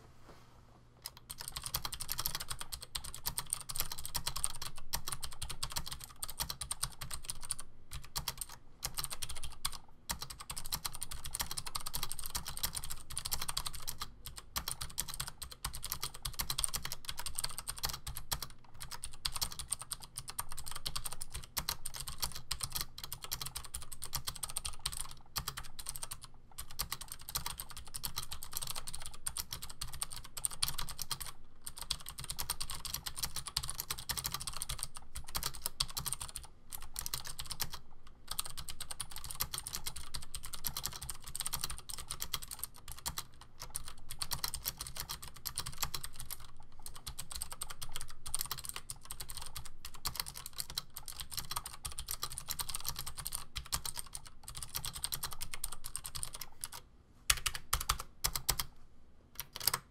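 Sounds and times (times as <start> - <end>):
clicky keyboard typing: 1.0 - 58.7, 59.4 - 59.9.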